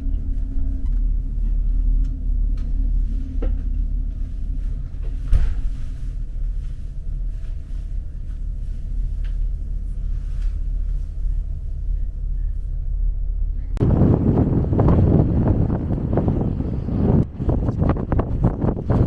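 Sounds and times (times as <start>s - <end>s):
boat engine rumble: 0.0s - 19.0s
faint steady hum: 0.0s - 19.0s.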